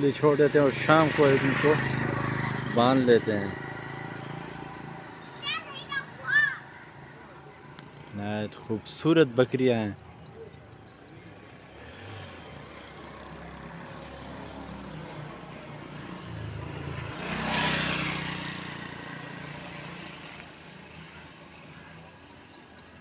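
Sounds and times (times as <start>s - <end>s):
motor vehicle passing by: 0.0s - 22.9s.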